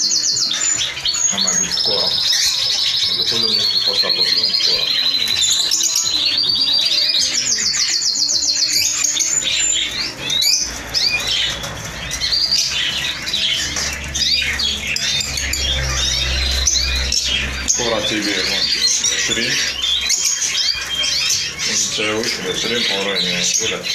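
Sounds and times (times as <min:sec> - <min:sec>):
bird trill: 0:00.0 - 0:23.9
caged birds singing: 0:00.0 - 0:23.9.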